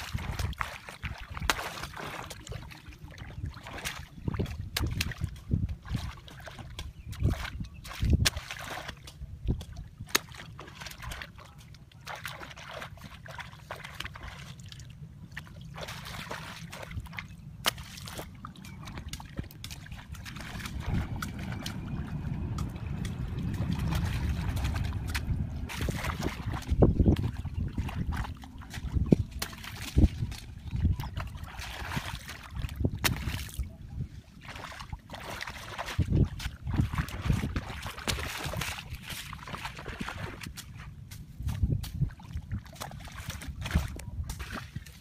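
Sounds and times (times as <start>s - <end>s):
low steady rumble: 0.0s - 45.0s
water splashing and sloshing: 0.0s - 45.0s.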